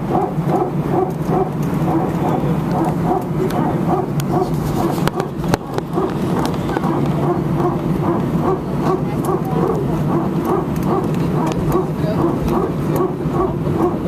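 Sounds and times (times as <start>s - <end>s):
repeating hydraulic pulsing: 0.0s - 14.0s
steady low hum: 0.0s - 14.0s.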